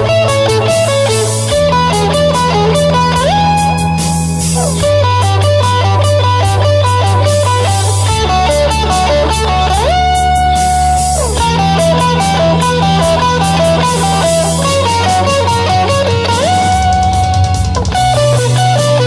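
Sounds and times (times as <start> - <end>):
backing track drums and bass: 0.0 - 19.0
overdriven electric guitar lead: 0.0 - 19.0.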